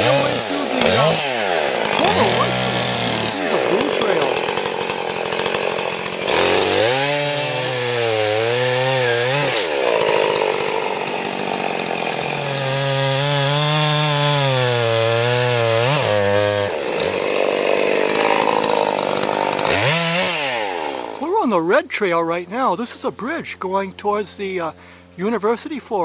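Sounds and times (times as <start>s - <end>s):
chainsaw cutting trees: 0.0s - 21.3s.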